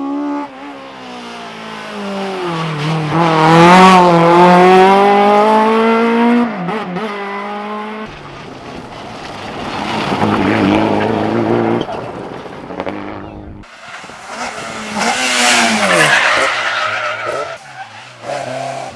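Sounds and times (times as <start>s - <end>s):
race car engine accelerating: 0.0s - 17.6s.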